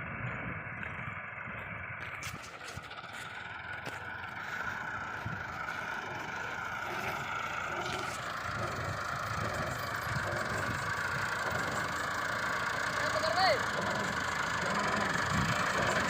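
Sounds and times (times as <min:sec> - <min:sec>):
machine engine running: 0:00.2 - 0:16.0.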